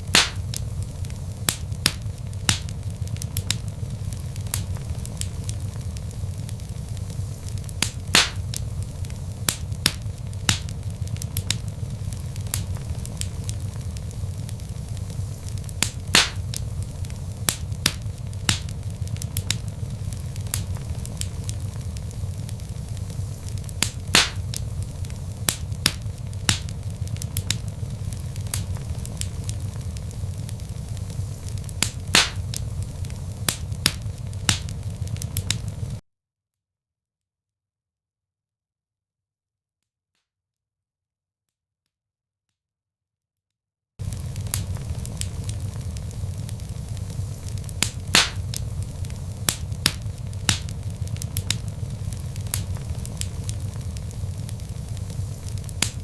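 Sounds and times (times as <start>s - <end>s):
low rumble of flames: 0.0s - 36.0s, 44.0s - 56.0s
wood fire crackling and popping: 0.0s - 36.0s, 44.0s - 56.0s.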